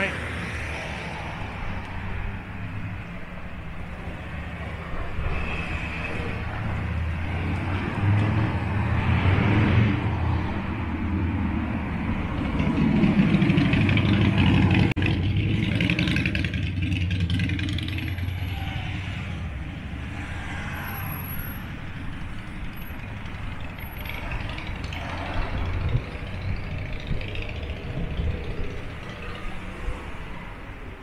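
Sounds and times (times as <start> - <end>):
steady traffic hum: 0.0 - 31.0
vehicle passing close by: 4.3 - 30.8.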